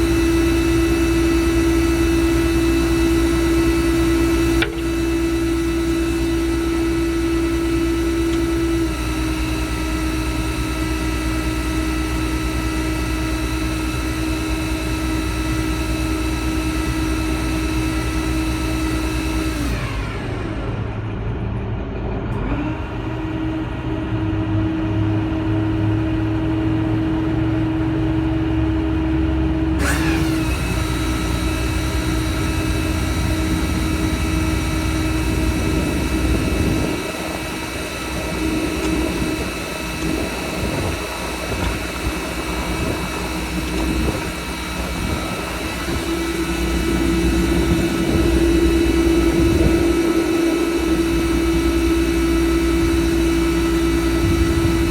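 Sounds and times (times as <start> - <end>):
diesel engine running: 0.0 - 54.9
steady whine: 0.0 - 54.9.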